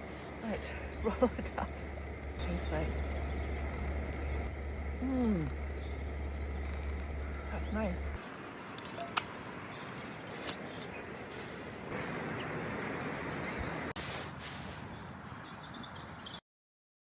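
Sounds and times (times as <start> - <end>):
steady outdoor hiss: 0.0 - 16.4.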